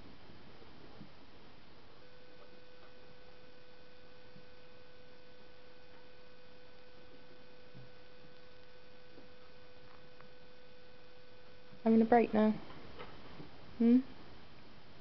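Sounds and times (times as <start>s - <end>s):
thin high whine: 0.0s - 12.6s
background hiss: 0.0s - 15.0s
steady electrical hum: 0.0s - 15.0s.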